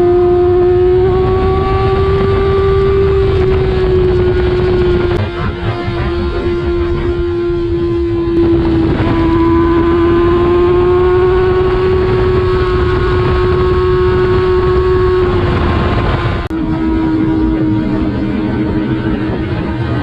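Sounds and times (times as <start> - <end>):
motorcycle engine at high revs: 0.0 - 20.0
wind buffeting microphone: 0.0 - 20.0.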